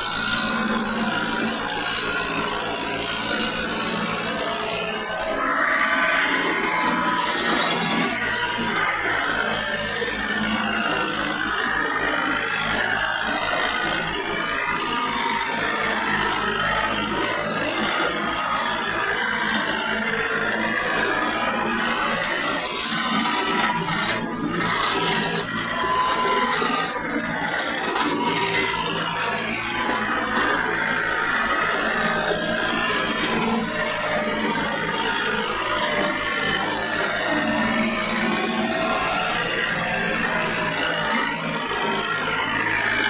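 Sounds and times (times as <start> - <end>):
tractor engine under load: 0.0 - 43.0.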